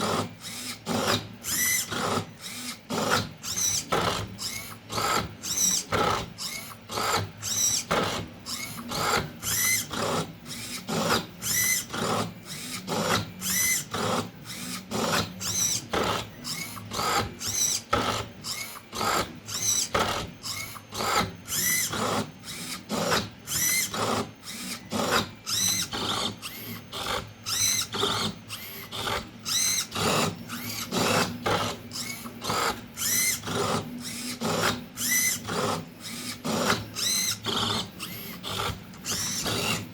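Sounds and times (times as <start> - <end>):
servo motors whirring: 0.0 - 39.9.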